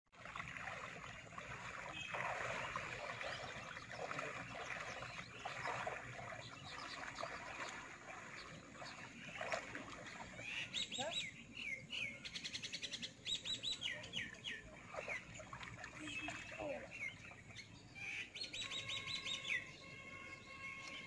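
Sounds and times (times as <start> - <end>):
people wading through water: 0.1 - 21.0.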